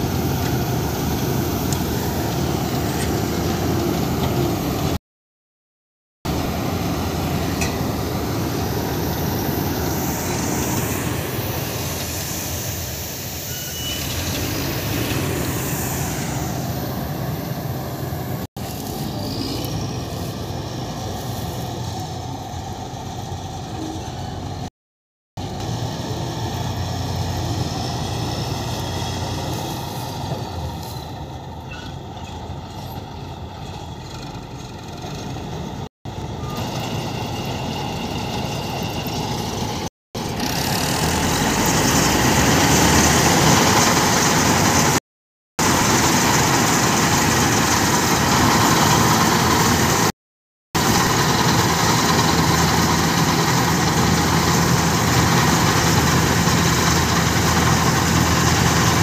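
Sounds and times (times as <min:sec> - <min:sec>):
combine harvester engine and machinery: 0:00.0 - 0:05.0, 0:06.3 - 0:24.7, 0:25.4 - 0:45.0, 0:45.6 - 0:50.1, 0:50.8 - 0:59.0.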